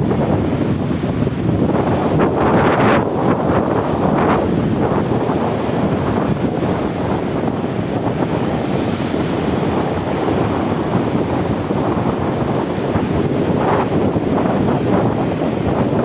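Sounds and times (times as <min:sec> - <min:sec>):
sea waves washing: 0:00.0 - 0:16.0
wind buffeting microphone: 0:00.0 - 0:16.0.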